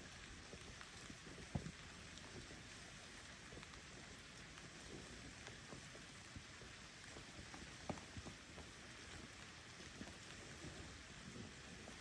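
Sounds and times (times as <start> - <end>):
light rain on water: 0.0 - 12.0.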